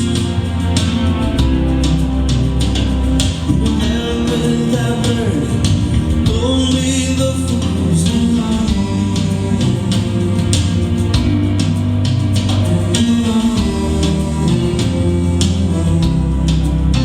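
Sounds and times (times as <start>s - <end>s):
rock ballad over loudspeakers: 0.0s - 17.0s.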